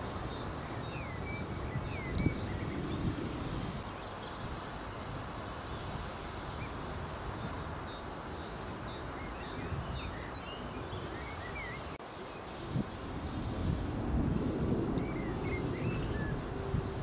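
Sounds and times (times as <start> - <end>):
distant jet engines rumbling: 0.0 - 3.9, 4.5 - 17.0
small birds chirping: 0.0 - 17.0.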